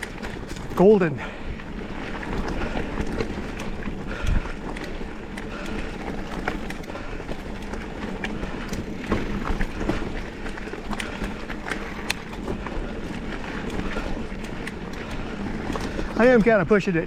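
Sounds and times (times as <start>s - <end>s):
bike clicks and rattles: 0.0s - 17.0s
bike tyre rumble on dirt trail: 0.0s - 17.0s.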